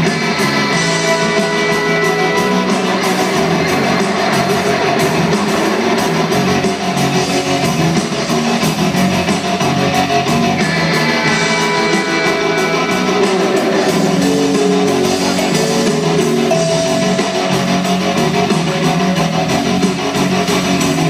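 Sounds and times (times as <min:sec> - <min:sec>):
electric guitar: 0:00.0 - 0:21.0
live rock band playing: 0:00.0 - 0:21.0.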